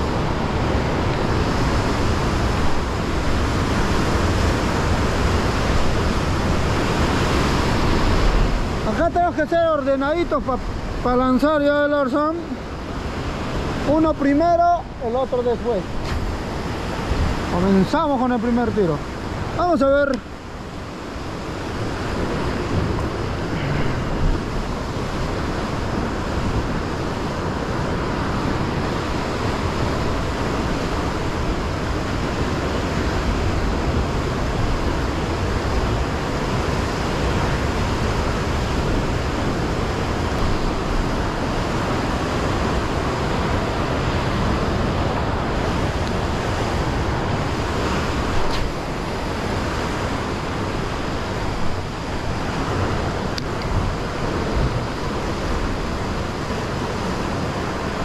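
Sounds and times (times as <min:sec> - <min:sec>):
wind on microphone: 0:00.0 - 0:11.6, 0:12.2 - 0:58.0
surf breaking over rocks: 0:00.0 - 0:58.0.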